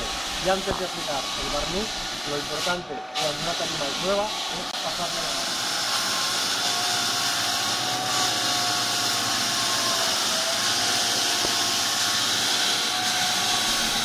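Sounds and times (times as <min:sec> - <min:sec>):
faint motor whine: 0:00.0 - 0:14.0
sander hiss on wooden boards: 0:00.0 - 0:14.0.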